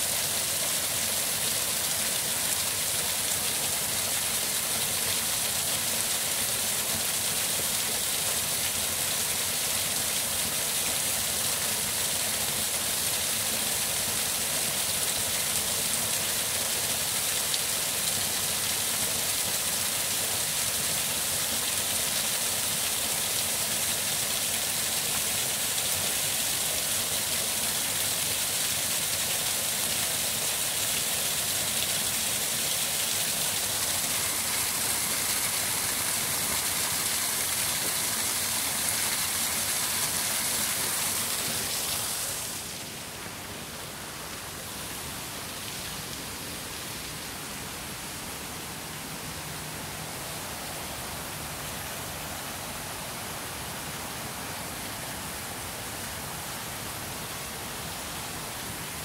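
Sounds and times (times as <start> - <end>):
waterfall splashing over rock: 0.0 - 59.0.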